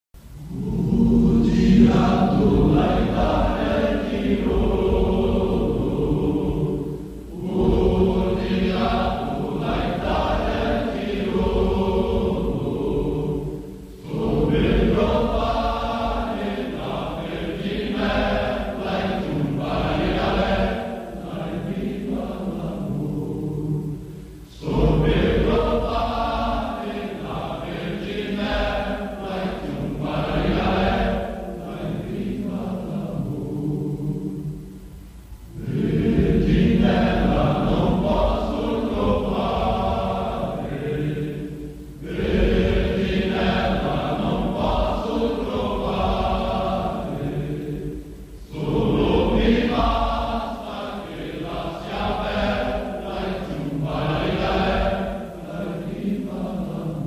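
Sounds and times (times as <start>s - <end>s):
choir singing: 0.3s - 57.0s.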